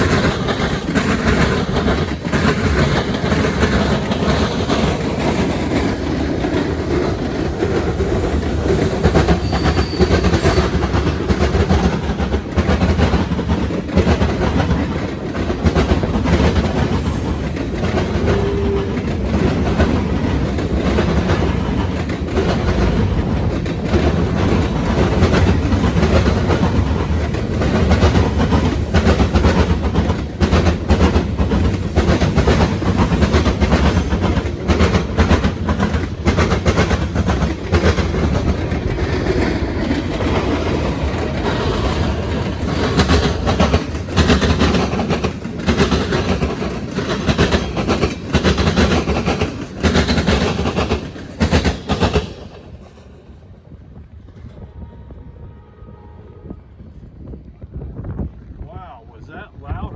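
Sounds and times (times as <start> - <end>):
train wheels clattering over crossings: 0.0 - 54.9.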